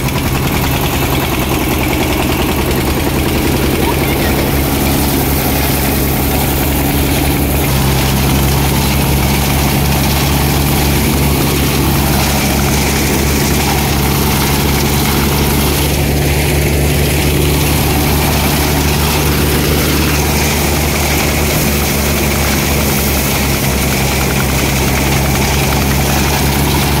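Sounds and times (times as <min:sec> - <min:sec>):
rushing of stalks being threshed: 0:00.0 - 0:27.0
tractor engine and thresher drone: 0:00.0 - 0:27.0.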